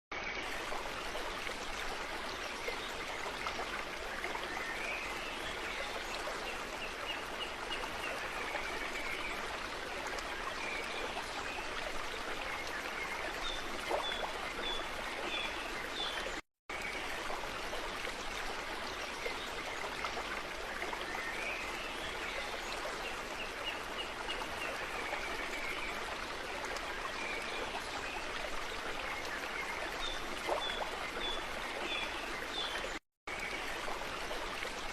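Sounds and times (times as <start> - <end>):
stream running water: 0.1 - 34.9.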